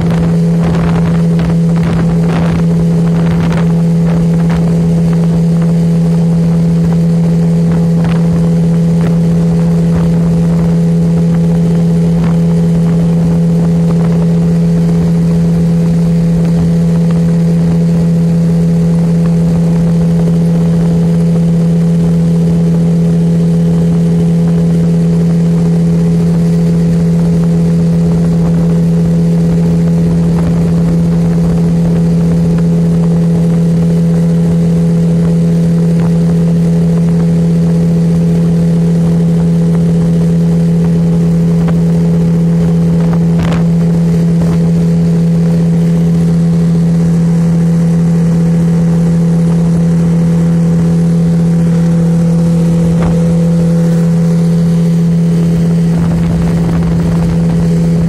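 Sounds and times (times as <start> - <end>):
motorboat engine droning: 0.0 - 58.0.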